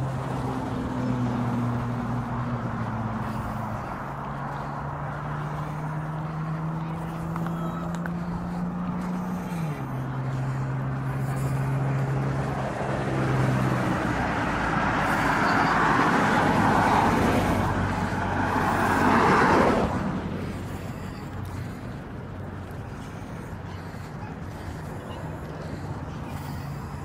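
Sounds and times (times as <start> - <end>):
car tyre and engine noise passing: 0.0 - 27.0
vehicle passing: 0.0 - 27.0.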